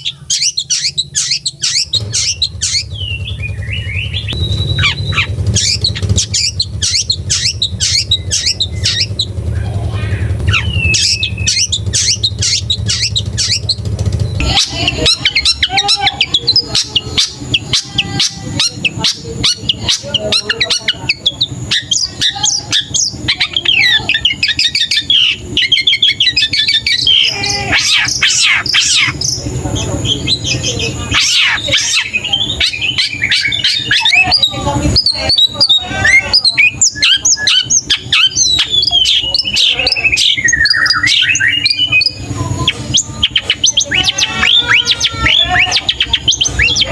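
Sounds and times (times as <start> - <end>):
low hum: 0.0 - 46.9
shrike singing: 0.0 - 46.9.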